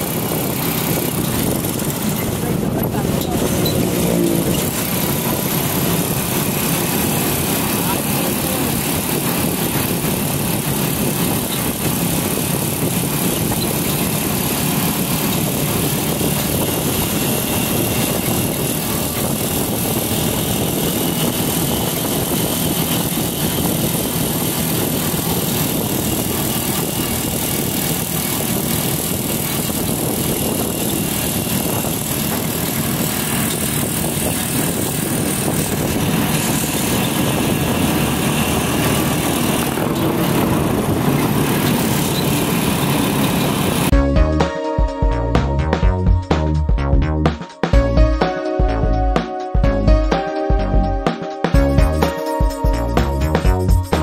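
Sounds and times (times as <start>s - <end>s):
motorcycle engine cruising: 0.0s - 54.0s
road and air noise: 0.0s - 54.0s.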